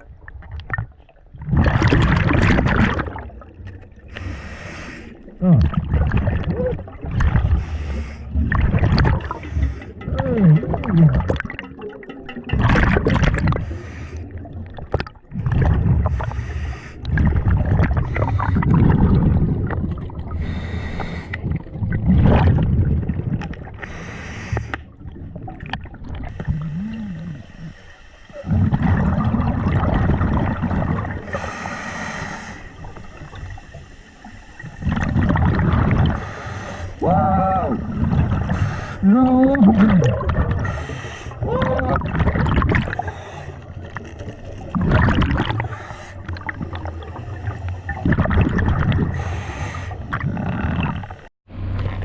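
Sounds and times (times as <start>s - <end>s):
exhaled air bubbles hissing: 1.4s - 51.3s.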